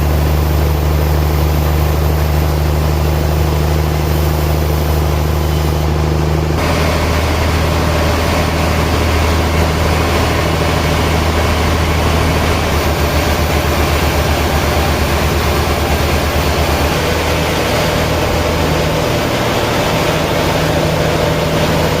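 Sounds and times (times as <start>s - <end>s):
broad noisy rush: 0.0s - 22.0s
low engine drone: 0.0s - 22.0s.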